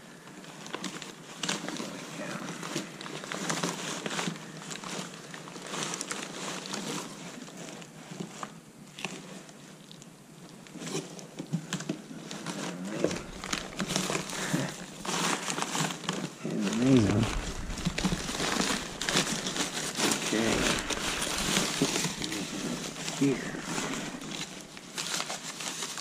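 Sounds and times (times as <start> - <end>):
packing paper and plastic rustling: 0.0 - 26.0.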